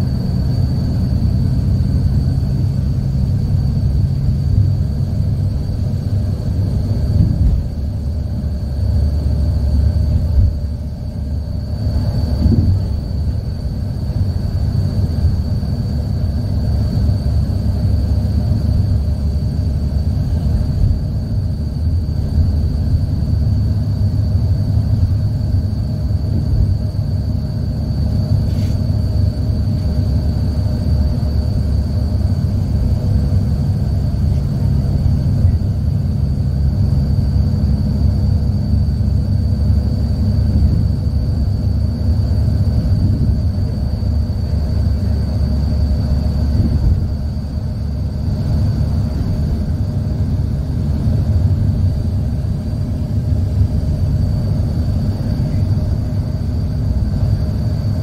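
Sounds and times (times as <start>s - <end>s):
car road and engine rumble: 0.0s - 58.0s
faint high whine: 0.0s - 58.0s.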